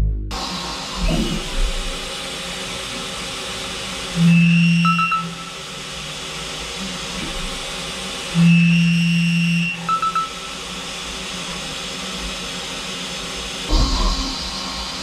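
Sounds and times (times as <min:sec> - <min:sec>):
loud droning tone: 0:00.0 - 0:12.3, 0:13.7 - 0:15.0
steady machine hiss: 0:00.4 - 0:15.0.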